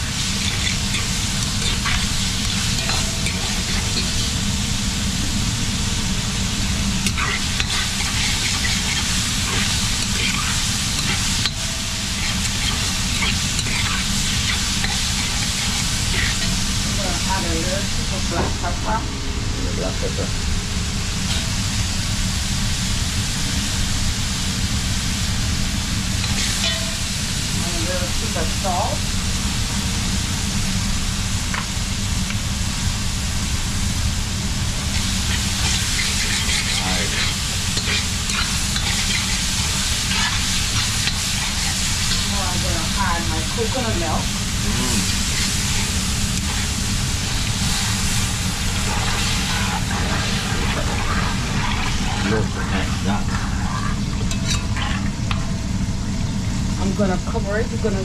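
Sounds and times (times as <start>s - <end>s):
vegetables frying in oil: 0.0s - 19.0s, 20.5s - 58.0s
constant low hum: 0.0s - 58.0s
low rumble: 8.7s - 58.0s.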